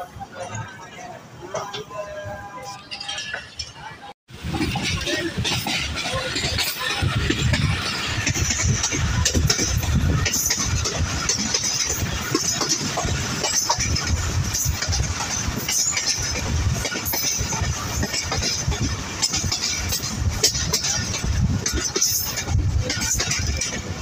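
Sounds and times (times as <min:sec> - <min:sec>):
train wheels on rails: 0:00.0 - 0:24.0
wind buffeting microphone: 0:04.3 - 0:24.0
track clicks and rattles: 0:04.4 - 0:24.0.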